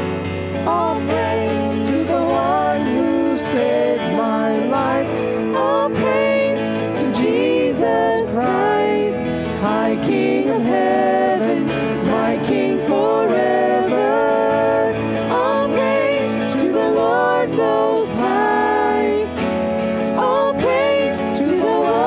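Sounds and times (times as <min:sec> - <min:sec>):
electric guitar: 0:00.0 - 0:22.0
keyboard: 0:00.0 - 0:22.0
man and woman singing: 0:00.6 - 0:19.4, 0:20.0 - 0:22.0.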